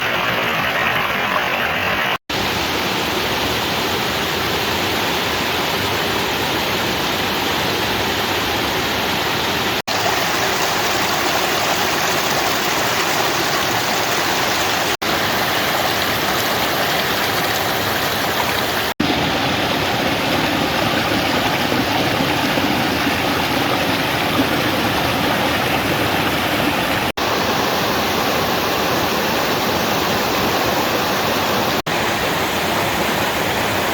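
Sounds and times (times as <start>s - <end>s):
stream rushing: 0.0s - 33.9s.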